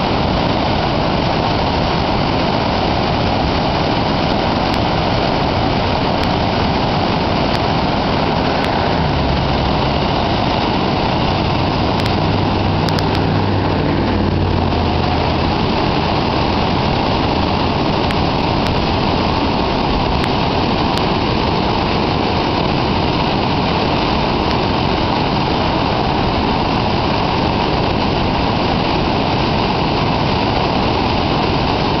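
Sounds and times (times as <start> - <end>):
river rushing over rapids: 0.0 - 32.0.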